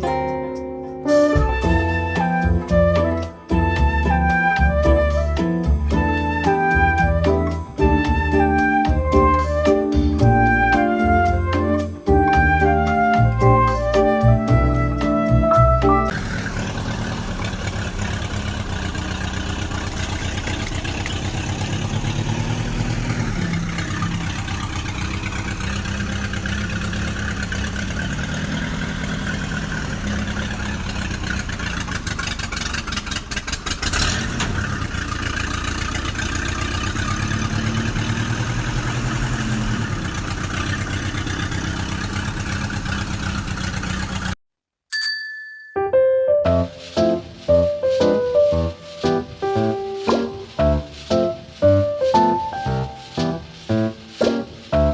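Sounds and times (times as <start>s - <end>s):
tractor engine running: 1.1s - 44.4s, 46.4s - 54.9s.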